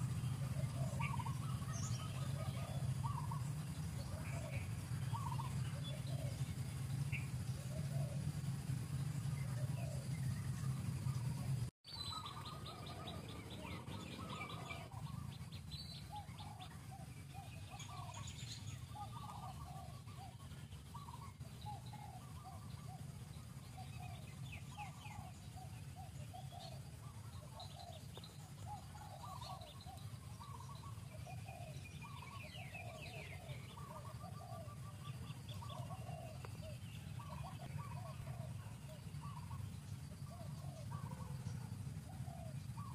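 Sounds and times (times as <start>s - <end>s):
birds chirping: 0.0s - 42.9s
steady low hum: 0.0s - 42.9s
steady low rumble: 0.0s - 42.9s.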